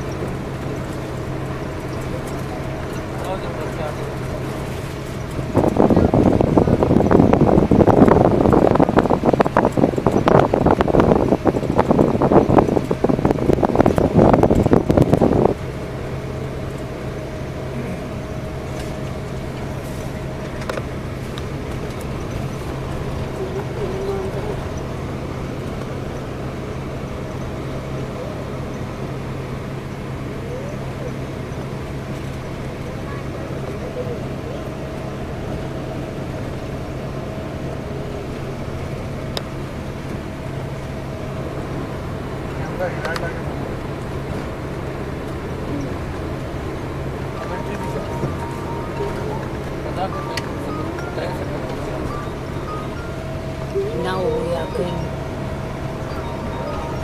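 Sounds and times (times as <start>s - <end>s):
bus engine hum: 0.0s - 57.0s
road noise: 0.0s - 57.0s.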